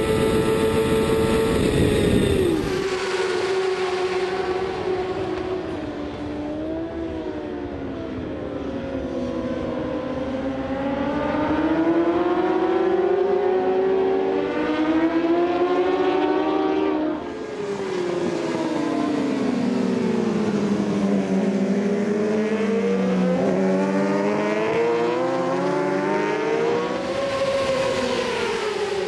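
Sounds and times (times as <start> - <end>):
racing motorcycle engines: 0.0 - 29.0.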